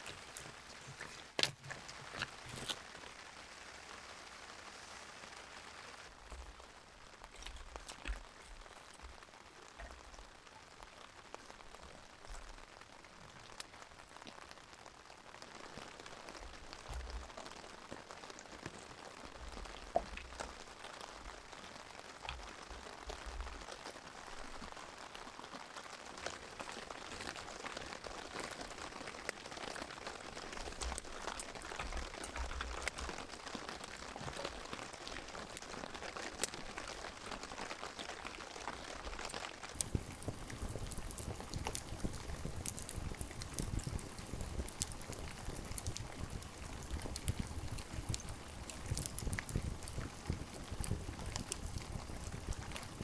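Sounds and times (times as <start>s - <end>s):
rain falling: 0.0s - 53.0s
raindrops ticking on surfaces: 0.0s - 53.0s.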